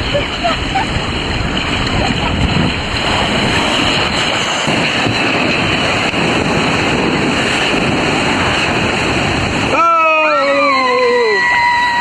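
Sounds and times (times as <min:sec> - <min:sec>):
water rushing down a slide: 0:00.0 - 0:12.0.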